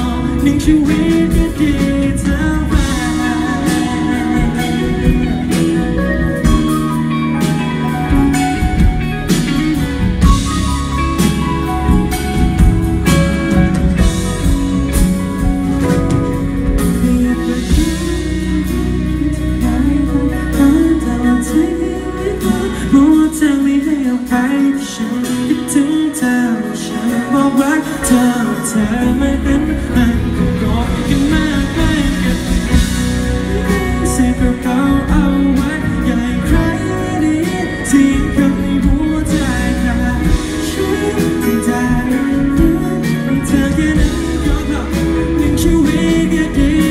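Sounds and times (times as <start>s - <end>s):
bass guitar: 0.0s - 46.9s
drums: 0.0s - 46.9s
electric guitars: 0.0s - 46.9s
keyboard: 0.0s - 46.9s
man singing lead vocals: 0.0s - 46.9s.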